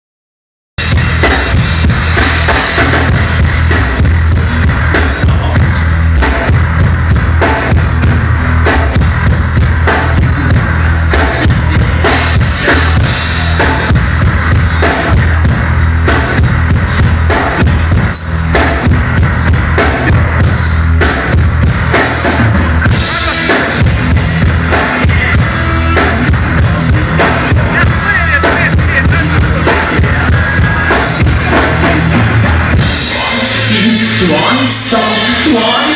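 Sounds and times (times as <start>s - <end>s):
rock band playing: 0.8s - 35.9s.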